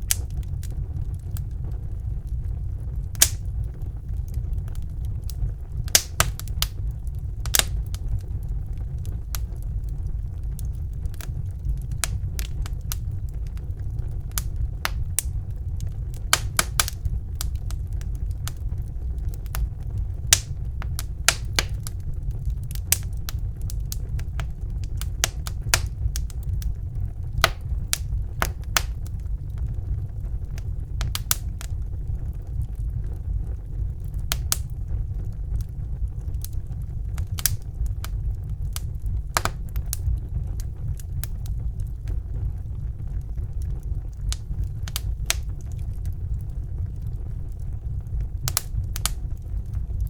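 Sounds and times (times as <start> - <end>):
burning wood crackling and popping: 0.0 - 50.0
fire flames rumbling: 0.0 - 50.0.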